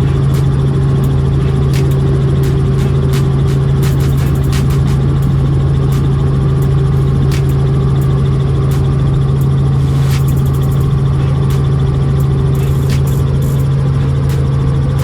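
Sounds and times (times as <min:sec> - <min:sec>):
helicopter engine and rotors drone: 0:00.0 - 0:15.0.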